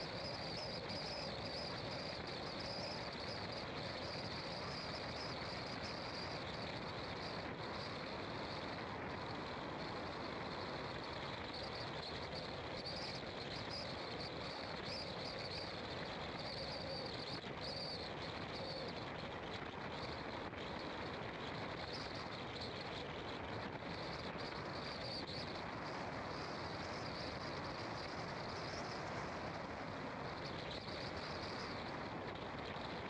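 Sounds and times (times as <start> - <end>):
high wavering hiss: 0.0 - 33.0.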